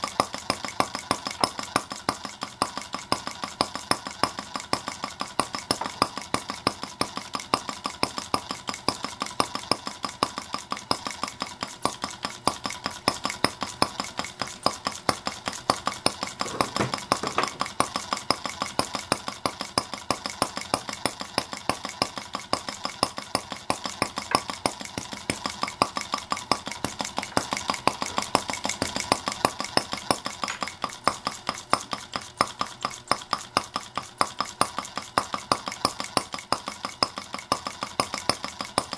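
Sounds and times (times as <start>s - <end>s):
model engine metallic ticking: 0.0s - 38.9s.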